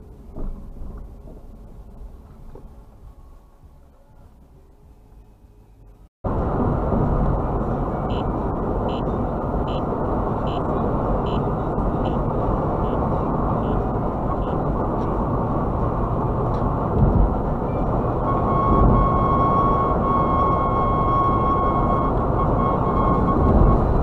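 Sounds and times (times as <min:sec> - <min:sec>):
road and tyre noise inside car: 0:00.0 - 0:24.0.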